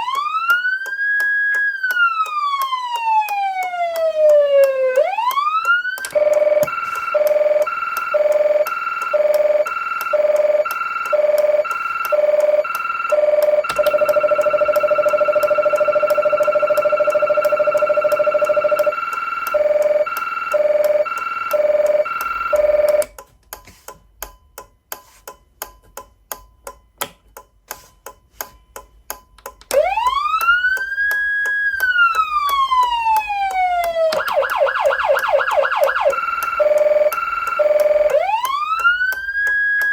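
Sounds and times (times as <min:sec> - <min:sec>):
electronic siren tones: 0:00.0 - 0:23.2, 0:29.7 - 0:39.9.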